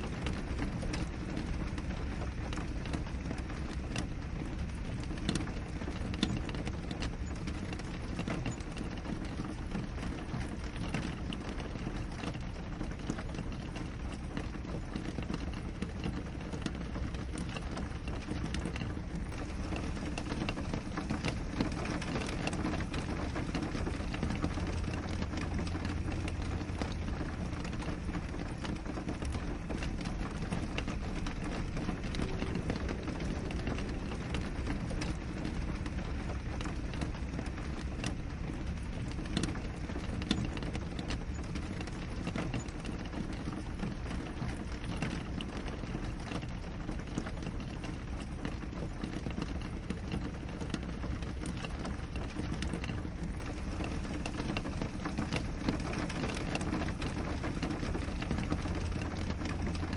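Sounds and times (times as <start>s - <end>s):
rain on a window: 0.0s - 59.9s
steady low rumble: 0.0s - 59.9s.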